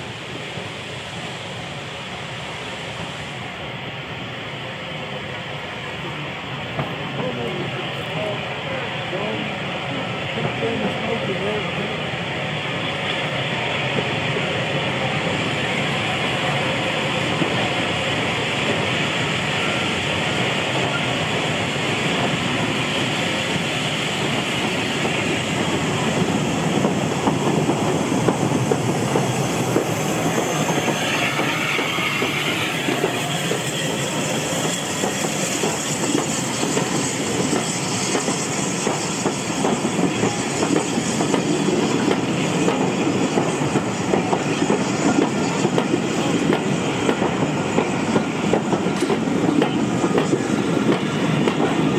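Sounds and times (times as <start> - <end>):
train wheel and rail noise: 0.0 - 51.9.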